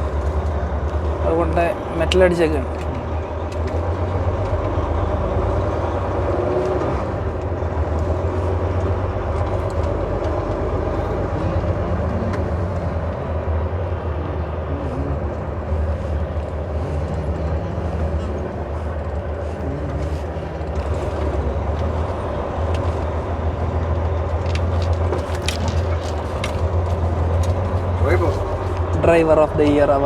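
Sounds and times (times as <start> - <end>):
diesel truck engine drone: 0.0 - 30.0
road noise: 0.0 - 30.0.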